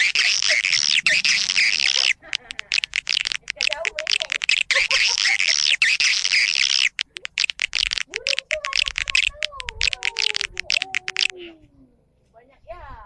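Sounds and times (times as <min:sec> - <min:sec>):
swiftlet calls chittering: 0:00.0 - 0:11.3.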